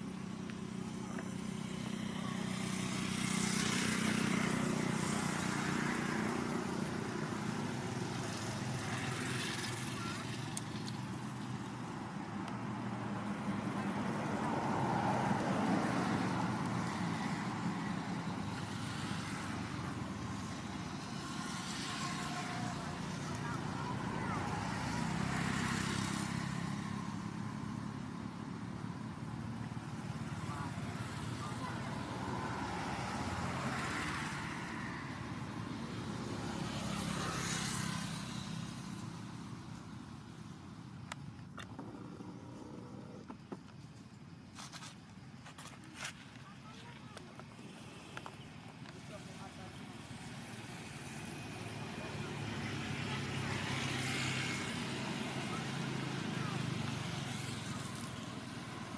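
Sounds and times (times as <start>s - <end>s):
traffic rumble: 0.0s - 58.9s.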